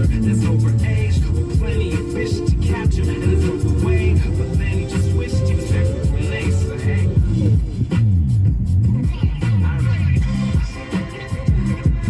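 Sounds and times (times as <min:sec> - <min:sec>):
hip hop music with heavy bass: 0:00.0 - 0:12.0.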